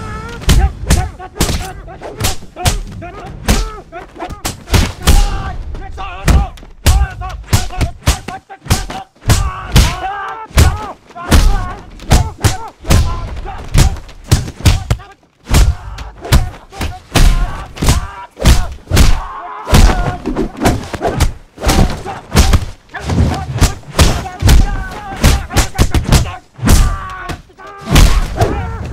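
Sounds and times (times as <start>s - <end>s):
fighters shouting and grunting: 0.0s - 28.9s
punch and kick impacts: 0.4s - 28.9s.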